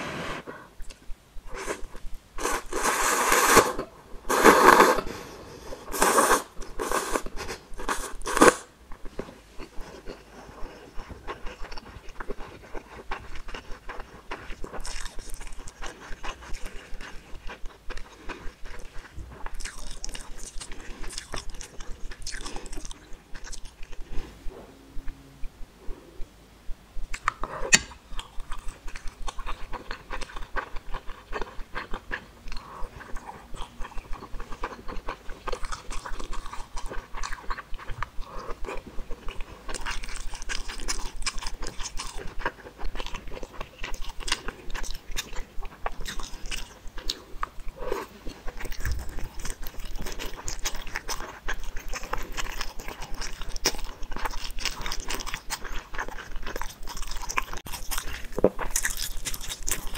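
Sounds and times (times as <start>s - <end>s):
person chewing noodles: 0.8s - 26.3s, 27.0s - 59.9s.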